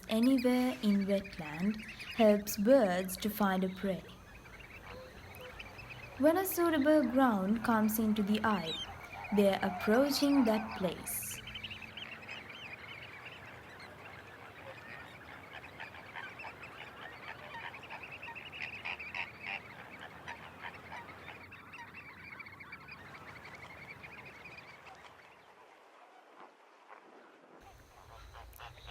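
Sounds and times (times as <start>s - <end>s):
flock of waterbirds honking: 0.0s - 26.3s, 27.6s - 28.9s.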